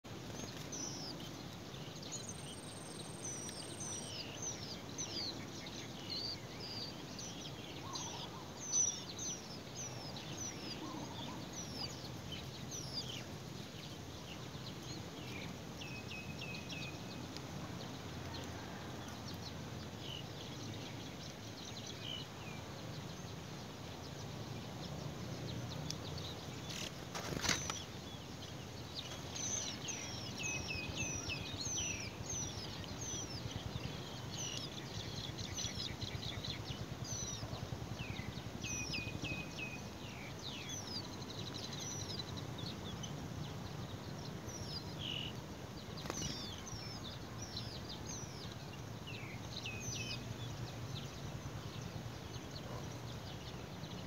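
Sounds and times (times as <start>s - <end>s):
nestlings begging chirps: 0.0s - 18.1s, 25.3s - 54.0s.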